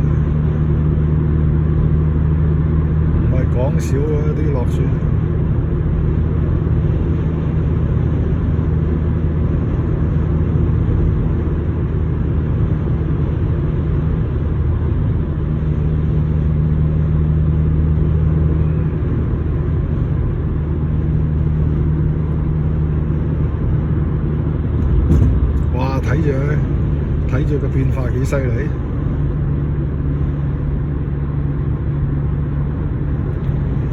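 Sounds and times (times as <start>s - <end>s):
car driving on highway: 0.0s - 33.9s.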